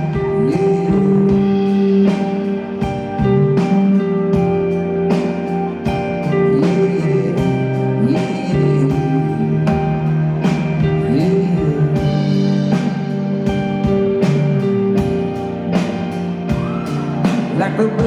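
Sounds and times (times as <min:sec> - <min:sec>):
drum kit beat: 0:00.0 - 0:18.0
guitar and keyboard chords: 0:00.0 - 0:18.0.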